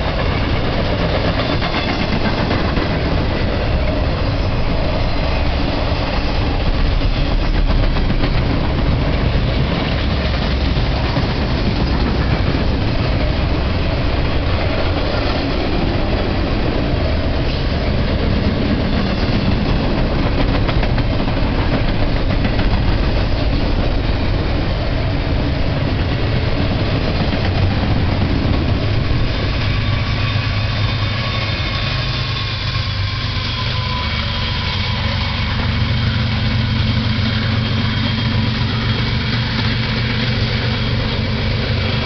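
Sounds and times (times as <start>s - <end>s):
diesel locomotive engine drone: 0.0s - 42.0s
locomotive high whine: 0.0s - 42.0s
train wheel clatter: 0.0s - 42.0s.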